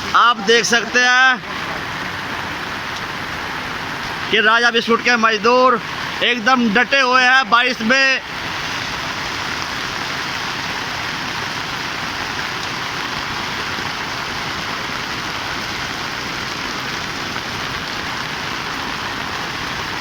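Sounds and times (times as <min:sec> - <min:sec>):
heavy rain drumming on surfaces: 0:00.0 - 0:20.0.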